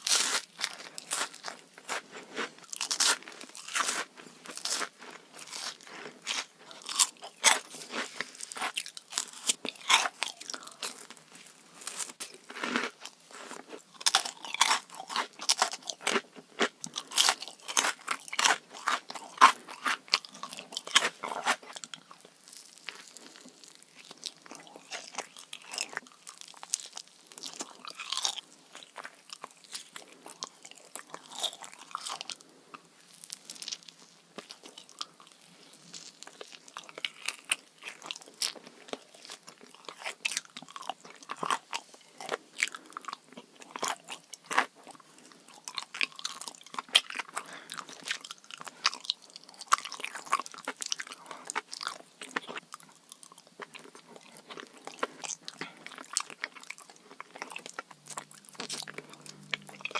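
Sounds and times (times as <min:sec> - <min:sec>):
crunchy chewing of dessert: 0:00.0 - 0:59.9.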